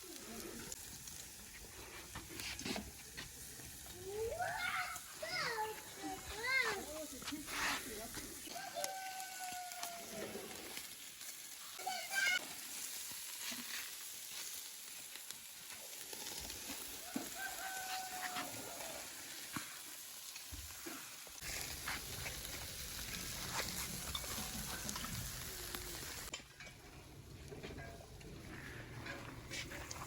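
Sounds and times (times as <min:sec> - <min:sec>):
fire crackling: 0:00.0 - 0:30.0
meat sizzling on a grill: 0:00.0 - 0:30.0.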